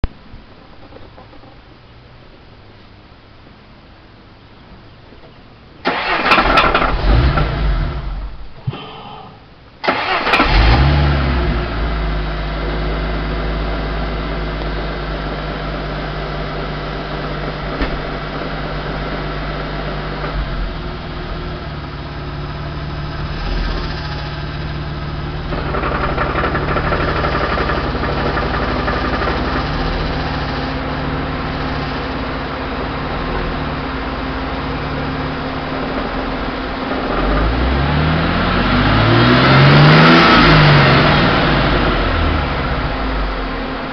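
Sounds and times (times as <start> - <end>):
car engine idling: 0.0 - 43.9
car engine starting: 5.6 - 43.9.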